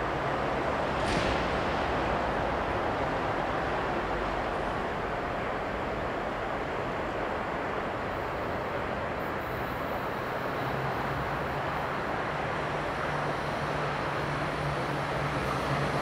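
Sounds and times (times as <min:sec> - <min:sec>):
distant traffic: 0:00.0 - 0:16.0
wind: 0:00.0 - 0:16.0.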